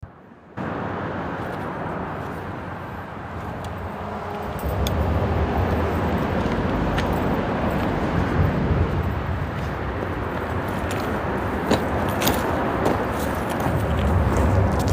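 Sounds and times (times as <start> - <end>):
freeway traffic noise: 0.0 - 14.9
heavy vehicles passing: 0.1 - 14.9.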